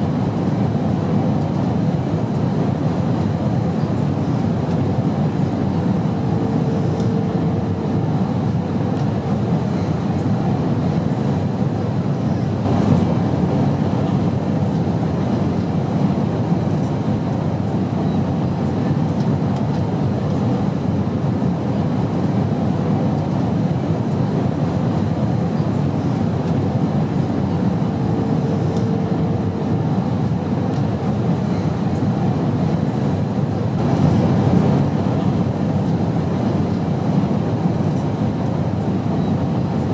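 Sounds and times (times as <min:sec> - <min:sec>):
airplane rumble: 0:00.0 - 0:39.9.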